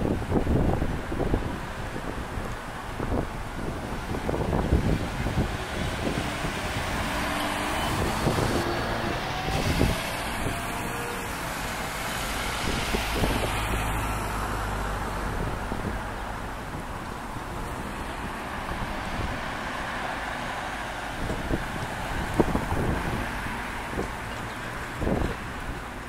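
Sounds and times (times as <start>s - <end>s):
vehicle engine rumble: 0.0s - 26.0s
road hiss: 0.1s - 26.0s.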